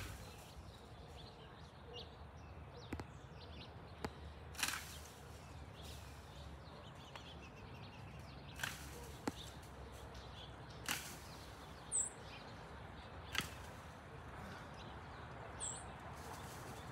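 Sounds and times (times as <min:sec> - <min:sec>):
high bird chirp: 0:00.0 - 0:16.9.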